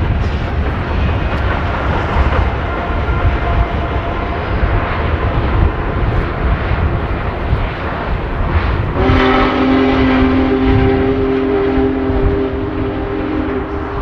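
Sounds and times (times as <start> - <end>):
steam locomotive rumbling: 0.0 - 14.0.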